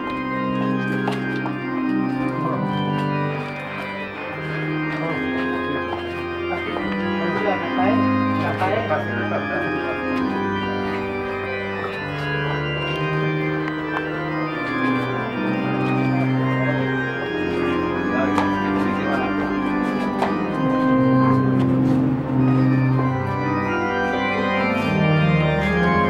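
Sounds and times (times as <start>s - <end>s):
organ playing slow chords: 0.0s - 26.0s.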